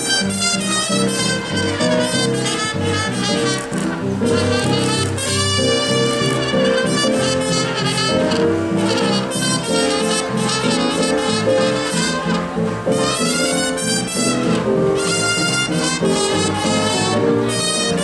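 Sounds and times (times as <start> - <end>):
jazz brass horns melody: 0.0 - 18.0.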